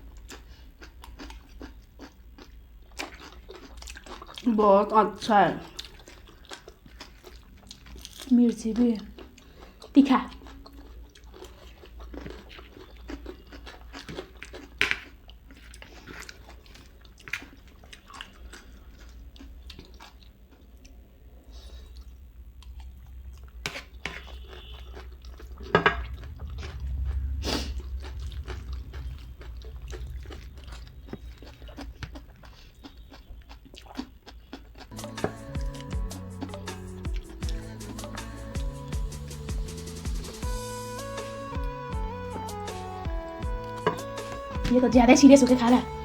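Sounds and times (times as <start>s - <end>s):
chewing crunchy snack: 0.0s - 4.6s, 5.6s - 40.6s.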